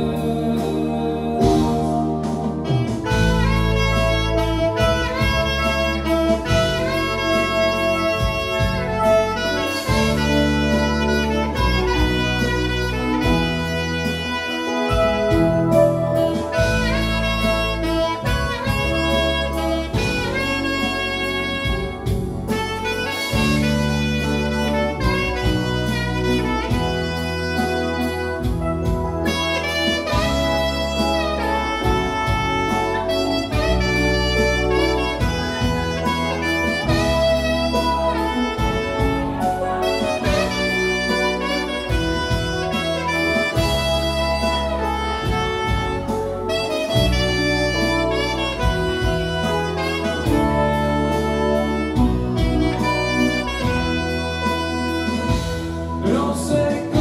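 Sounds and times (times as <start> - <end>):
bass line: 0.0 - 57.0
drum kit: 0.0 - 57.0
keyboard: 0.0 - 57.0
saxophone melody: 0.0 - 57.0.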